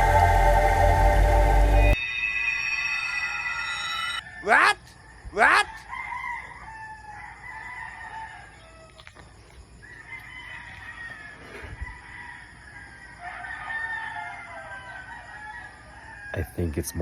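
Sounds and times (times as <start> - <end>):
roosters crowing: 0.0 - 9.1, 9.7 - 17.0.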